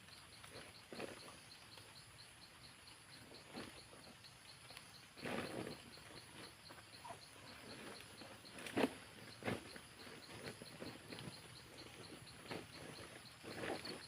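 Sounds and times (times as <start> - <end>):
insect chirping: 0.0 - 14.0
rustles: 0.0 - 14.0.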